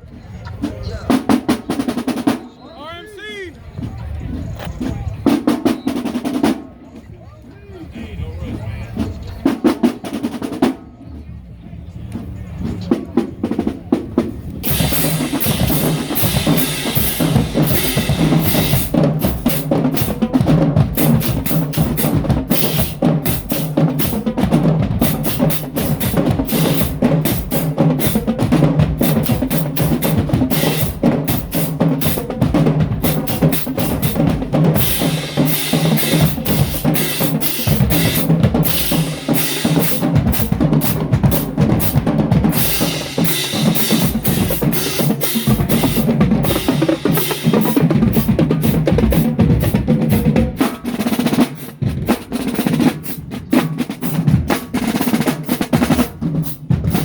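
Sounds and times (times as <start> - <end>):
marching drumline cadence: 0.0 - 57.0.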